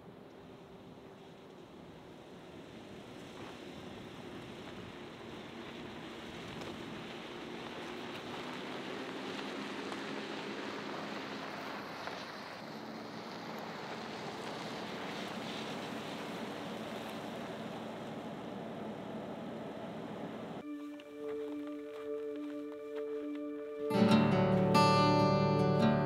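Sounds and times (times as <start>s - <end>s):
car engine humming: 0.0s - 26.0s
tyres rolling on gravel: 1.2s - 25.6s.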